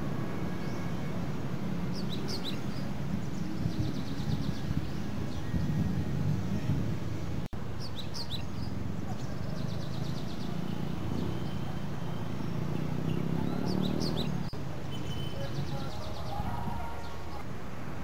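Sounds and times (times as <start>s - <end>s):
birds chirping: 0.4s - 17.4s.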